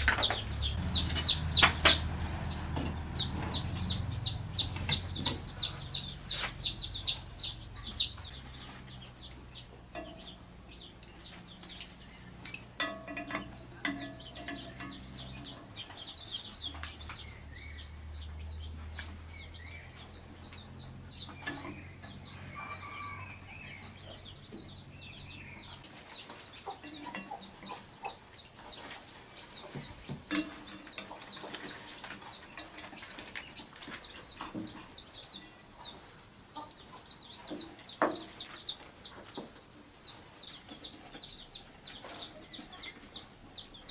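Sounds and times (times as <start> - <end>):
high peeping chirps: 0.0 - 30.0, 30.6 - 43.9
chickens calling: 0.0 - 43.9.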